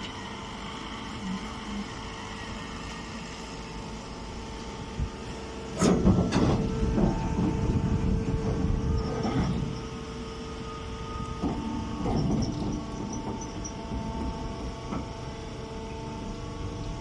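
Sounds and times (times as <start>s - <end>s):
baler machine humming: 0.0s - 17.0s.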